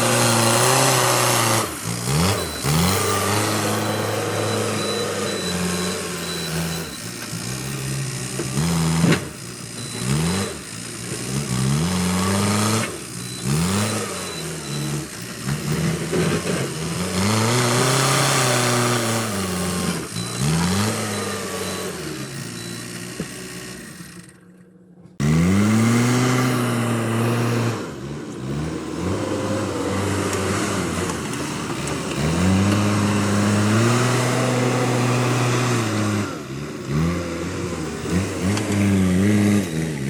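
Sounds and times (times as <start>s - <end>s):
diesel engine revving: 0.0s - 24.5s, 25.2s - 40.0s.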